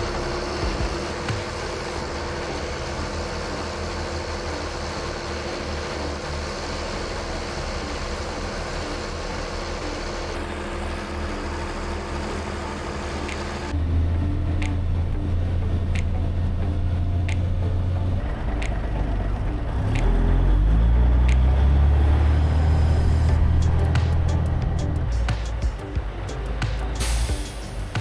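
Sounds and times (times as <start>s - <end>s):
heavy machinery engine droning: 0.0s - 28.0s.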